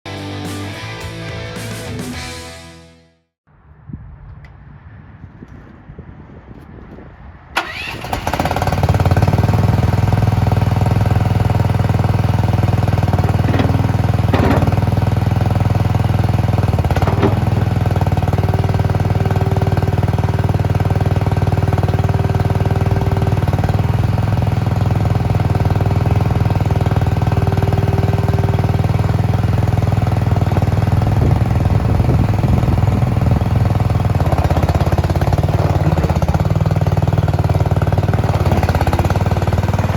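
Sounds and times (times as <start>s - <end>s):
engine starting and idling: 7.6s - 39.9s.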